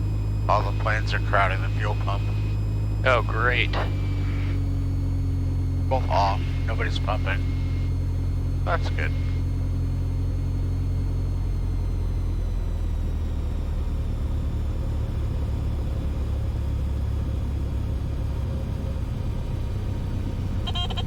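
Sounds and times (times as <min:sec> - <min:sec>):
aircraft engine and propeller drone: 0:00.0 - 0:21.0.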